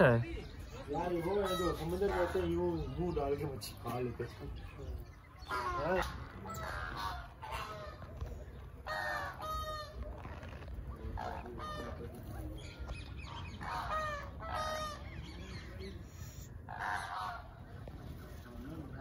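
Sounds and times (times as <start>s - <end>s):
birds calling harshly: 0.0s - 19.0s.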